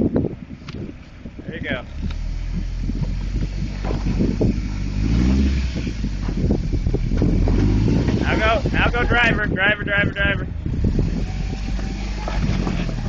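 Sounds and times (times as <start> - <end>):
truck engine revving: 1.5 - 9.6, 10.2 - 13.0.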